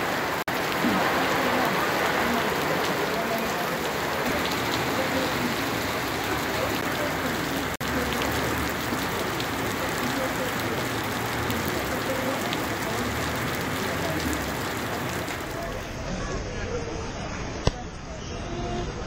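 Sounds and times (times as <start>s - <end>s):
heavy rain on a wet street: 0.0s - 17.8s
faint voices: 0.0s - 19.0s.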